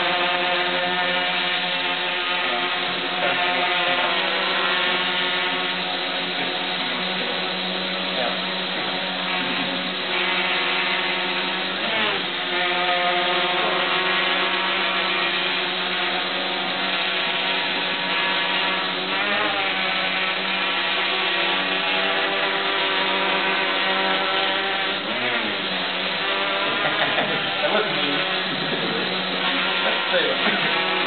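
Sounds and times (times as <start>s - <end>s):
drone rotors buzzing: 0.0s - 31.0s.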